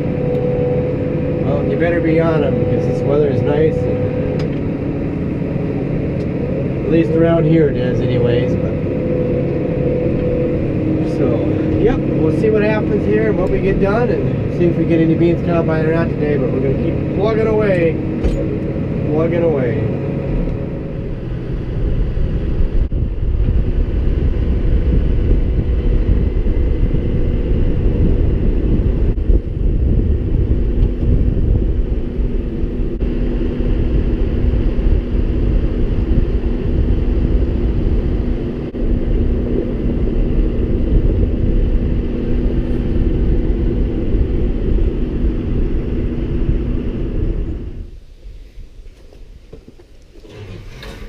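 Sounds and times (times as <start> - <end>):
steady hum: 0.0 - 49.5
tractor engine rumbling: 0.0 - 51.0.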